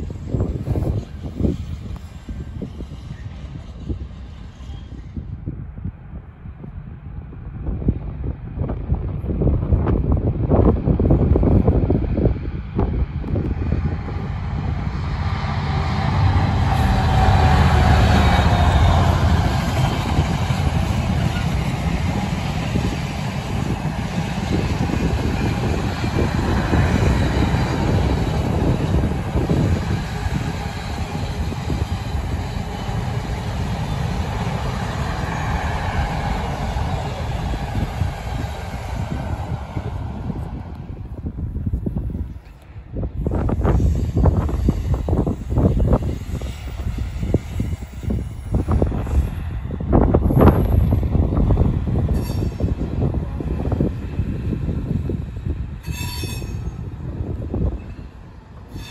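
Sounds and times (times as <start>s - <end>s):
freight train rumbling past: 0.0s - 58.9s.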